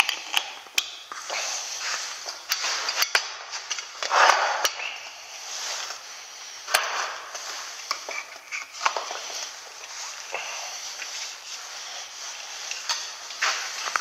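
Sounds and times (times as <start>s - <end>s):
hoses scraping across concrete: 1.2s - 14.0s.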